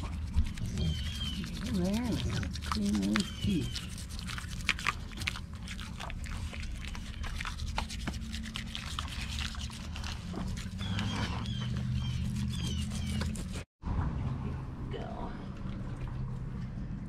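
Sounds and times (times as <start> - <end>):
toothbrush scrubbing teeth: 0.0 - 13.7.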